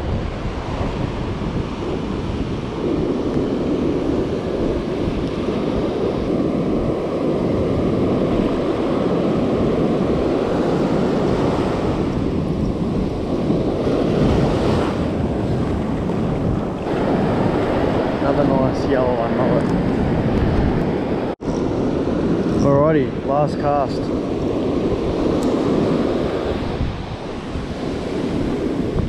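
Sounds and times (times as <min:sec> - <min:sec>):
waves: 0:00.0 - 0:29.0
wind blowing on microphone: 0:00.0 - 0:29.0.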